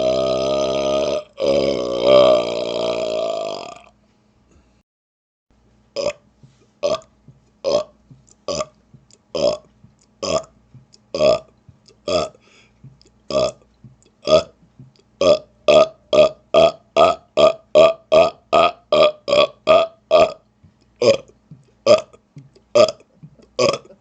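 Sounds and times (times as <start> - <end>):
man burping: 0.0 - 3.9, 6.0 - 6.2, 6.8 - 13.6, 14.2 - 20.4, 21.0 - 24.0.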